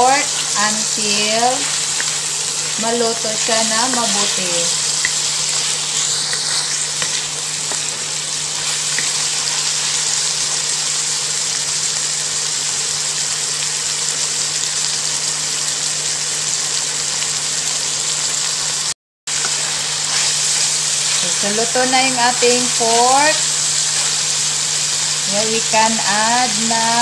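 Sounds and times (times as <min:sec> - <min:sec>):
meat sizzling in hot oil: 0:00.0 - 0:27.0.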